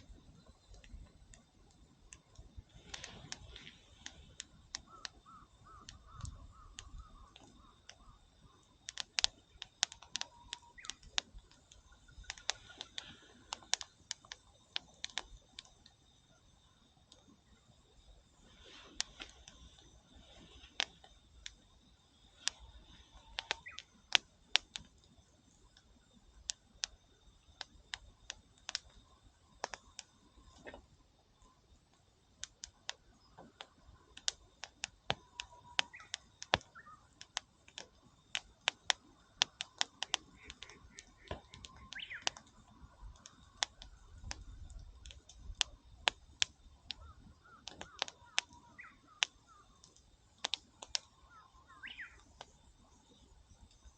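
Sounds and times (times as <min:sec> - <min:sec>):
campfire wood crackling: 0:00.0 - 0:53.9.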